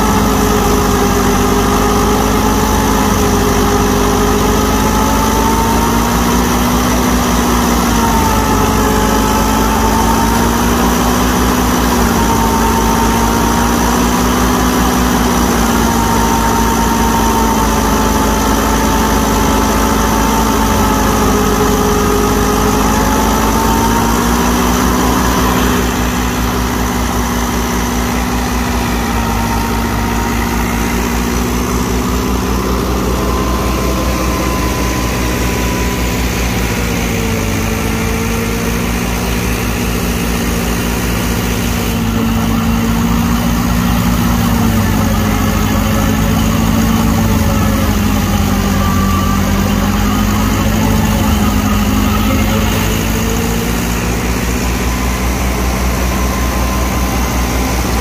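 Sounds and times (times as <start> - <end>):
thresher drum humming: 0.0 - 58.0
tractor diesel engine under load: 0.0 - 58.0.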